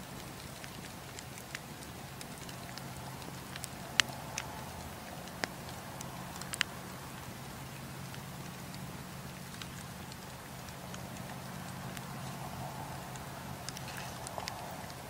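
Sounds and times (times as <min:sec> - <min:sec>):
campfire pops and snaps: 0:00.0 - 0:15.0.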